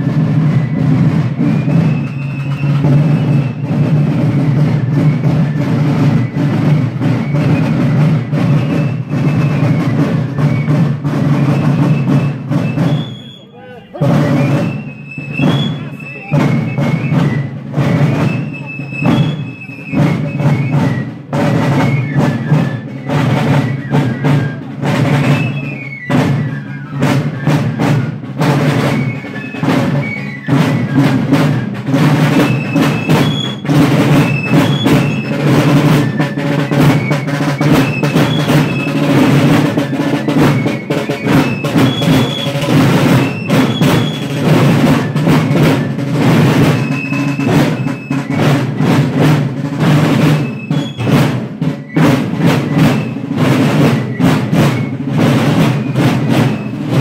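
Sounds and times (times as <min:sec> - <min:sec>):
drumming and drum rolls: 0:00.0 - 0:57.0.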